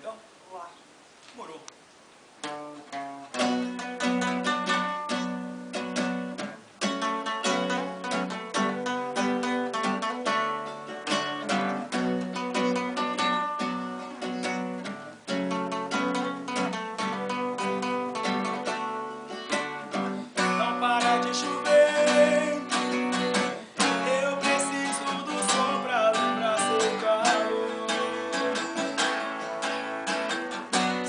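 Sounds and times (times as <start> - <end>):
acoustic guitar strumming: 2.4 - 31.0.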